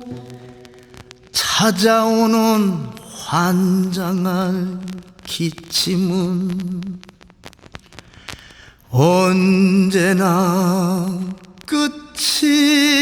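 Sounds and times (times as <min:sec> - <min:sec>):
man singing a slow ballad: 0:00.0 - 0:07.1, 0:08.8 - 0:13.0.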